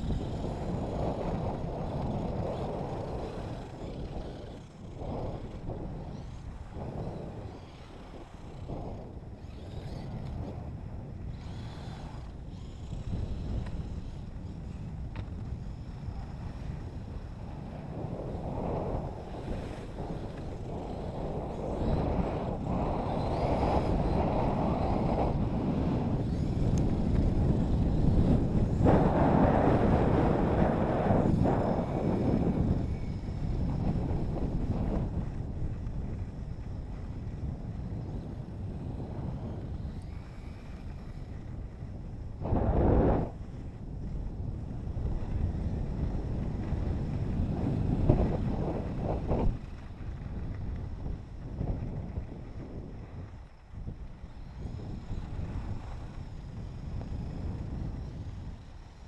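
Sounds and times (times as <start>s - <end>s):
skis sliding over snow: 0.0s - 59.0s
wind rushing over microphone: 0.0s - 59.0s.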